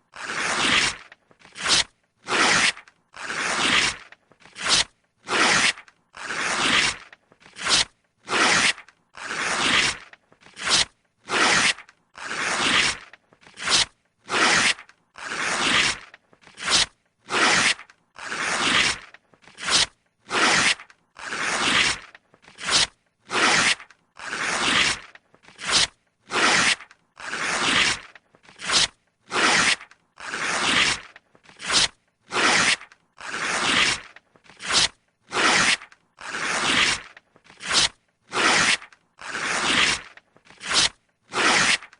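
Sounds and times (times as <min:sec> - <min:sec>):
paper tearing: 0:00.0 - 0:41.9.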